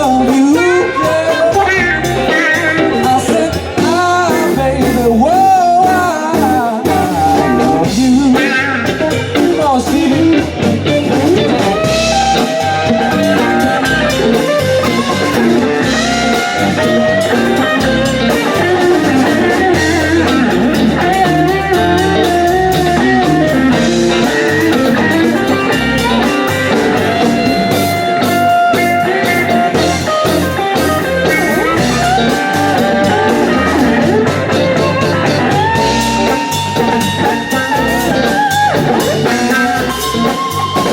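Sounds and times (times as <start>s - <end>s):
drum kit: 0.0s - 40.9s
guitar with wavering notes: 0.0s - 40.9s.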